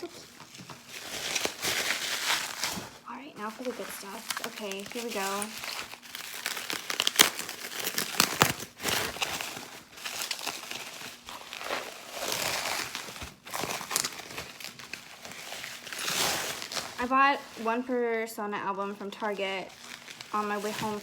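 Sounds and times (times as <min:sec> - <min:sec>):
packaging tearing: 0:00.0 - 0:17.6, 0:19.7 - 0:21.0
plastic packaging crinkling: 0:00.0 - 0:21.0.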